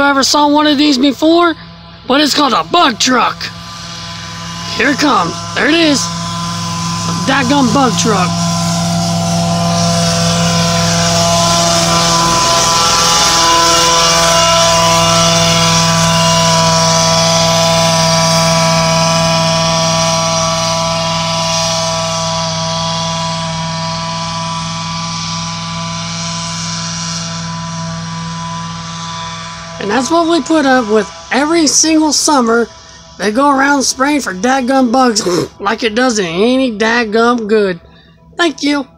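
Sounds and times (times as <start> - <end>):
fogging truck sprayer drone: 0.0 - 38.9.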